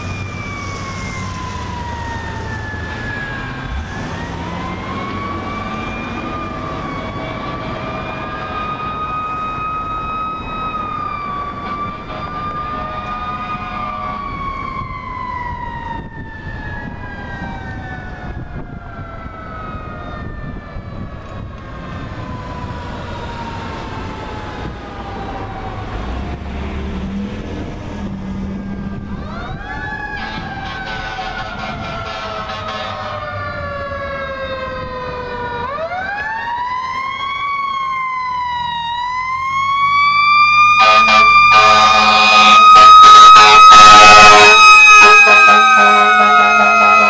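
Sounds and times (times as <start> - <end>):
mechanical siren wailing: 0.0 - 27.4, 28.0 - 47.0.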